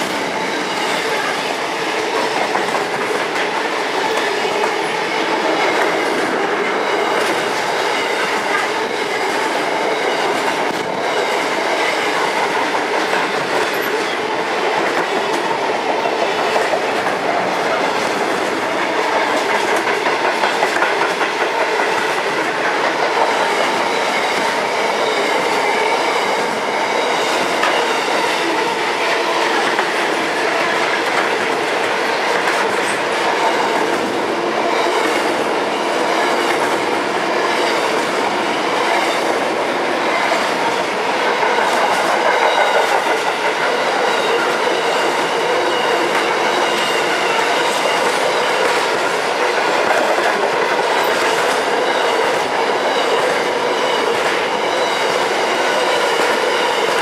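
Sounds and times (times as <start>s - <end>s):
steel wheels running on rails: 0.0s - 57.0s.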